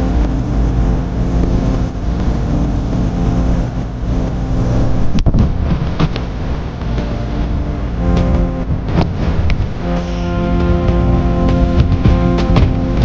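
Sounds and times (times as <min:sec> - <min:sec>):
low motor rumble: 0:00.0 - 0:13.0.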